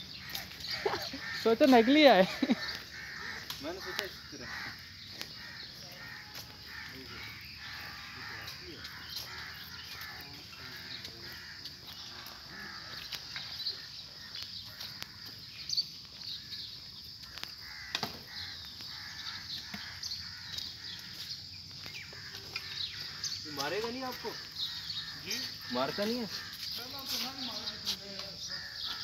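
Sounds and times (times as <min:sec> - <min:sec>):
birds calling: 0:00.0 - 0:29.0
steady outdoor background: 0:00.0 - 0:29.0.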